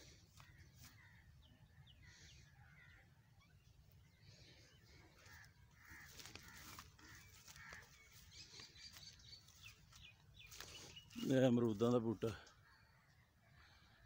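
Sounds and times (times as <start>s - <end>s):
distant crows cawing: 0.0s - 14.0s.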